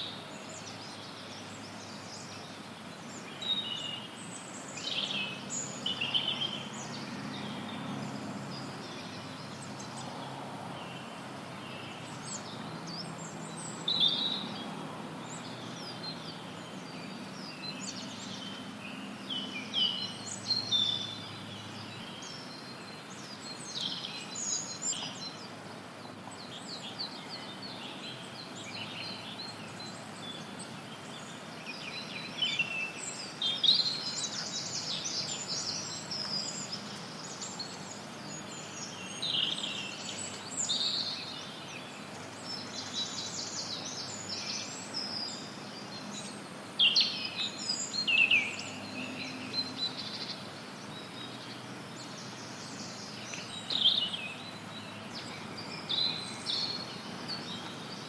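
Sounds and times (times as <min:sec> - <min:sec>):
songbirds chirping and trilling: 0:00.0 - 0:58.0
white noise hiss: 0:00.0 - 0:58.0.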